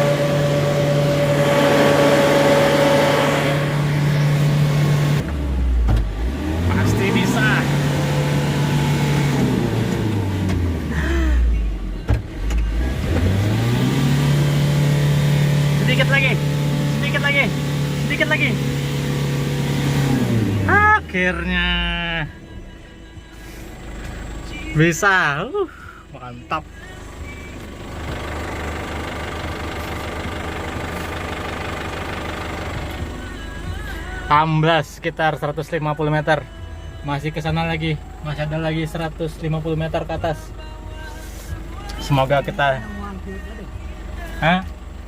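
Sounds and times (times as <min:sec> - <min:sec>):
diesel engine labouring: 0:00.0 - 0:45.0.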